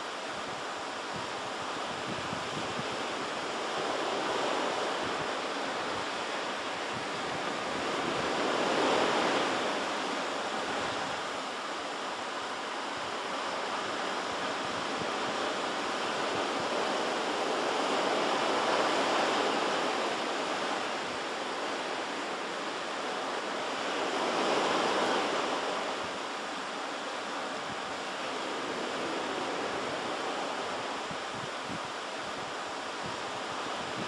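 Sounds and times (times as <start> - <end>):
waves washing in: 0.0 - 34.0.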